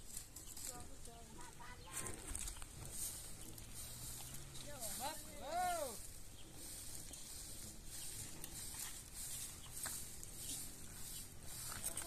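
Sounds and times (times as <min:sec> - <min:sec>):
outdoor background hiss: 0:00.0 - 0:12.0
chickens clucking: 0:00.4 - 0:12.0.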